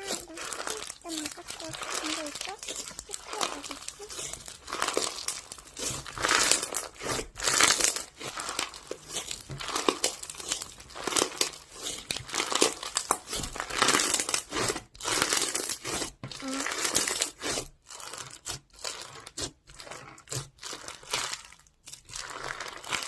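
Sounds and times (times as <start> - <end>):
crinkling and rustling: 0.0 - 23.0.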